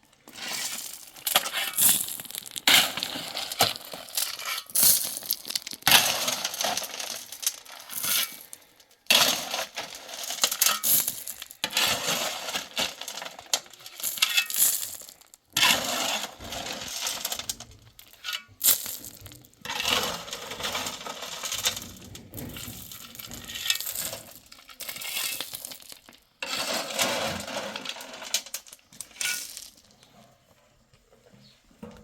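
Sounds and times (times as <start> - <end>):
gravel being shovelled: 0.2 - 29.9
stones clattering and crunching: 0.3 - 30.1.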